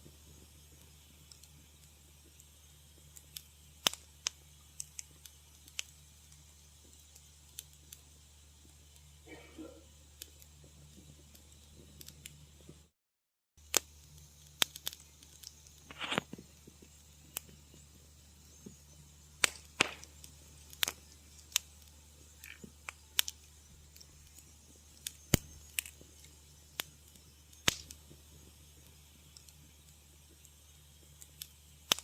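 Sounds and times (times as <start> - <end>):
low steady hum: 0.0 - 12.9, 13.6 - 32.0
wood fire crackling: 0.0 - 12.9, 13.6 - 32.0.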